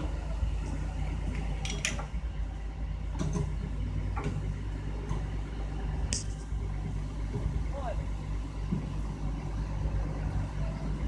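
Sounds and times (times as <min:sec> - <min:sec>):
heavy diesel engine idling: 0:00.0 - 0:11.0.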